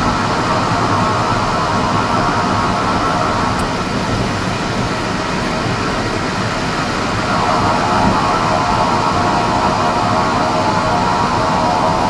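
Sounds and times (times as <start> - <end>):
turboprop engine roar and whine: 0.0 - 12.0.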